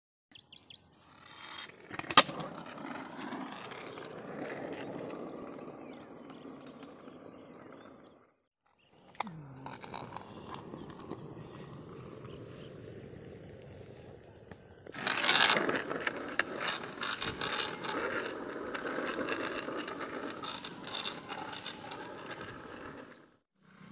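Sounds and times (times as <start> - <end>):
skateboard wheels rolling on asphalt: 0.5 - 23.9
skateboard clack: 1.8 - 8.0, 9.0 - 23.4.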